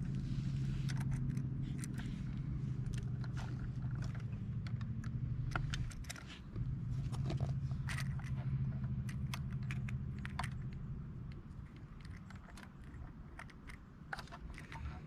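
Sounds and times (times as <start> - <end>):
small plastic parts clicking and scraping: 0.0 - 15.0
steady low hum: 0.0 - 15.0.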